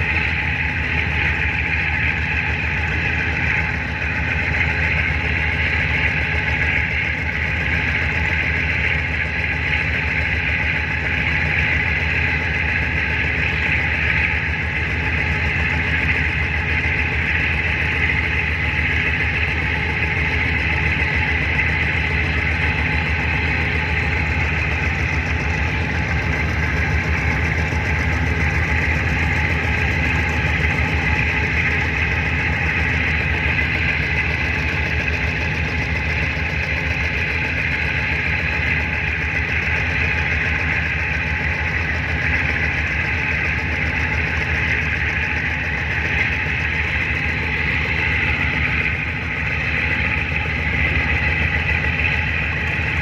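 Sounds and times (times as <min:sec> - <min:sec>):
boat diesel engine running: 0:00.0 - 0:53.0.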